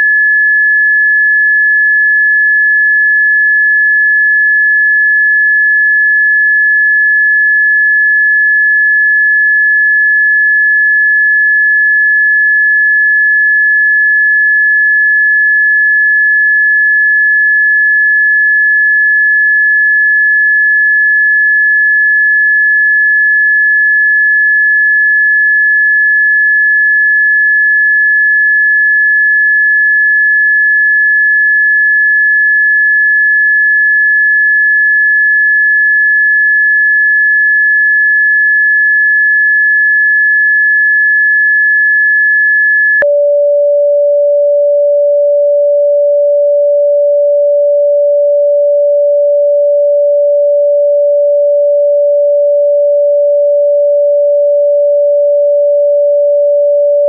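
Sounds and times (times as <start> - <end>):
high-pitched sine tone: 0.0 - 57.0.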